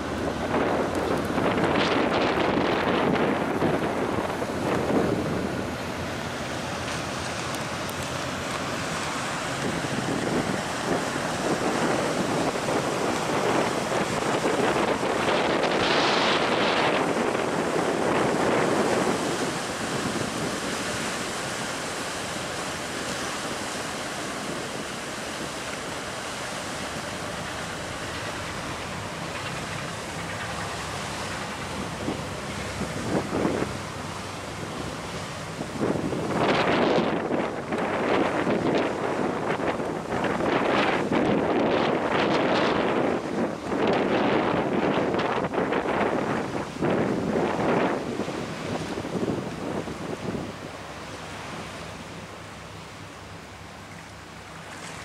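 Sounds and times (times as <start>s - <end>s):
wind buffeting microphone: 0.0s - 51.9s
rush of churned water: 0.0s - 55.0s.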